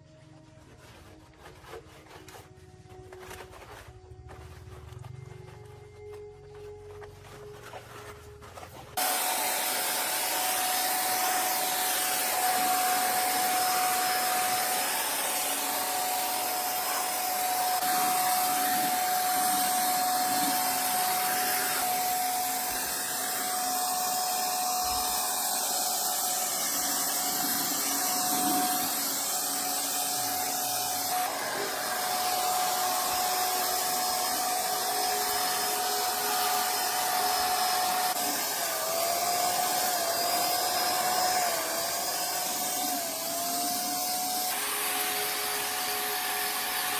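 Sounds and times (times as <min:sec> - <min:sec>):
small motor whining: 0:04.6 - 0:46.9.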